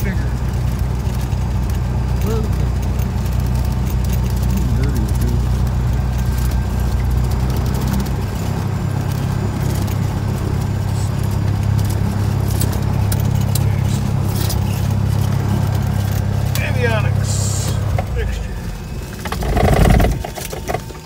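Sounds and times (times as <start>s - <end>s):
light aircraft engine and propeller: 0.0s - 21.0s.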